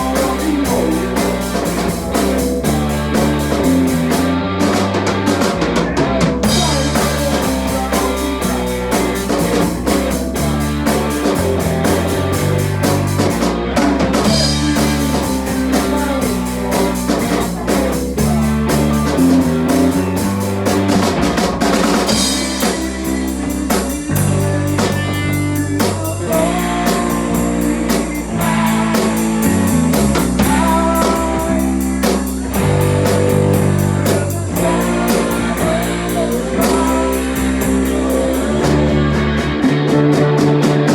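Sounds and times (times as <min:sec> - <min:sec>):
loud rock music: 0:00.0 - 0:40.9.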